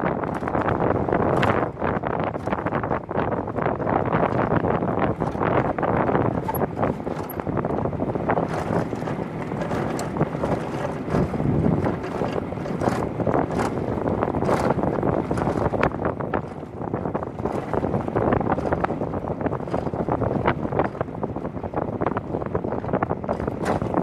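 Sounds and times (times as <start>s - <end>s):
wheels rumbling on concrete: 0.0s - 24.0s
wind rushing on microphone: 0.0s - 24.0s.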